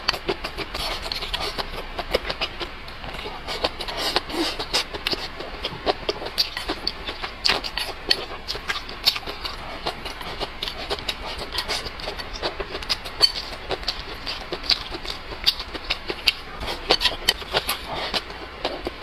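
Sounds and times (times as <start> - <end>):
person chewing and smacking: 0.0 - 19.0.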